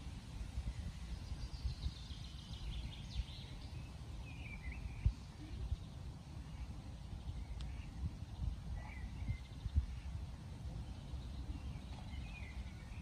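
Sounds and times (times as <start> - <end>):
wind rumble on microphone: 0.0 - 13.0
bird chirping: 0.6 - 13.0.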